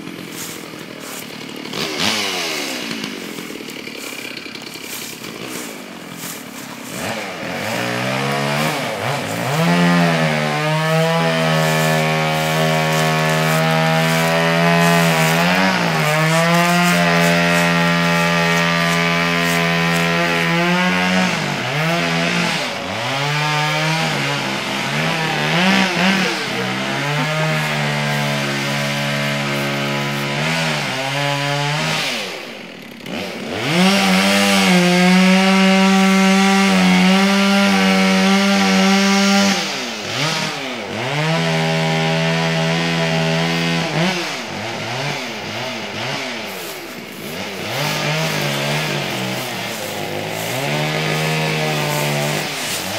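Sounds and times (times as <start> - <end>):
chainsaw cutting through wood: 0.0 - 52.9.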